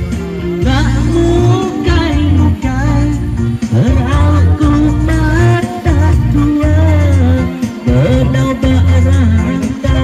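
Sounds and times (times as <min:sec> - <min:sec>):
amplified backing music: 0:00.0 - 0:10.0
man singing into microphone: 0:00.6 - 0:10.0.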